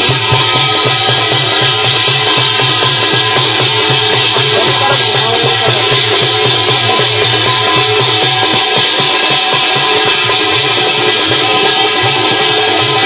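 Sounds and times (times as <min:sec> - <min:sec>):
fast hand drum rhythm: 0:00.0 - 0:13.0.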